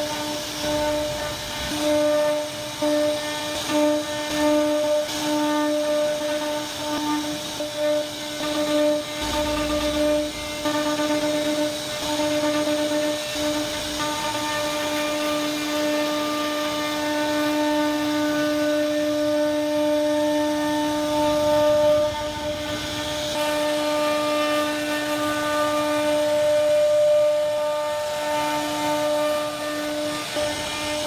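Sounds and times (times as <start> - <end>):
bit cutting wood: 0.0 - 31.0
router spindle whining: 0.0 - 31.0.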